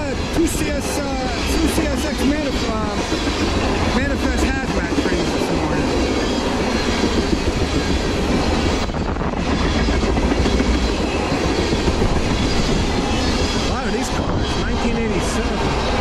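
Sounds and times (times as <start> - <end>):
steel wheels rumbling on rails: 0.0 - 16.0
wheels clacking over rail joints: 0.0 - 16.0.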